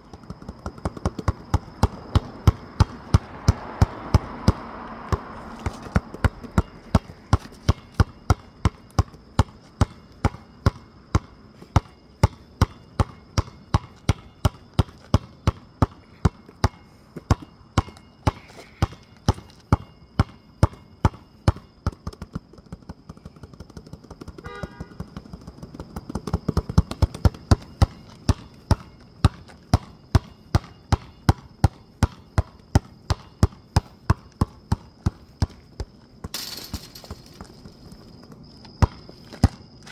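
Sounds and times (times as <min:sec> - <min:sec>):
basketball bouncing on hard ground: 0:00.0 - 0:39.9.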